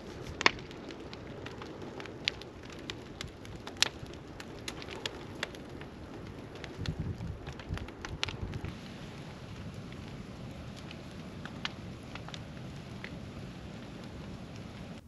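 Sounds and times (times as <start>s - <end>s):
fire hissing: 0.0s - 15.0s
fire popping and crackling: 0.0s - 15.0s.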